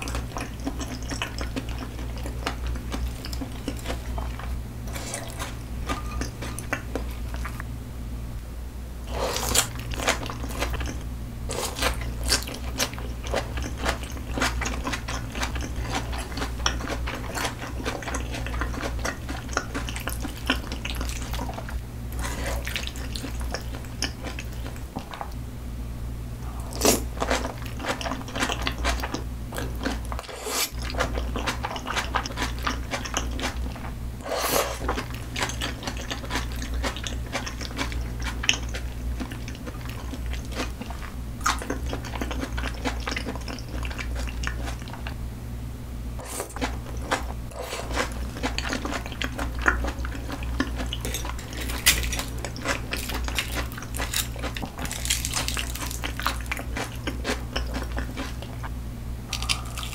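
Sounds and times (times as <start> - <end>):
close-miked chewing: 0.0 - 7.6, 9.1 - 25.4, 26.6 - 45.2, 46.2 - 58.7, 59.3 - 59.9
steady low hum: 0.0 - 59.9.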